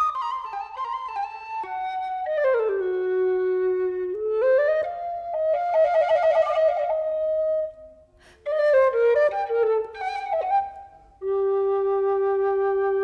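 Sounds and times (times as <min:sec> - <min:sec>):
wooden recorder melody: 0:00.0 - 0:13.0.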